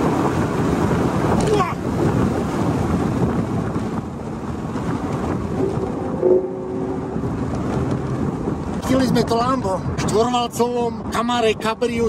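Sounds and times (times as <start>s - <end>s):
car engine running: 0.0s - 10.1s
wind rushing through open car: 0.0s - 12.0s.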